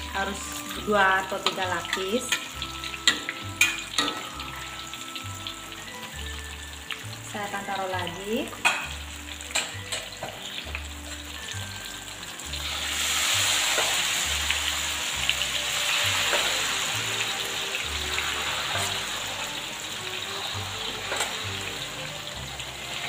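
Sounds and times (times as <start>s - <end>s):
background music: 0.0s - 23.0s
batter sizzling in hot oil: 0.0s - 23.0s.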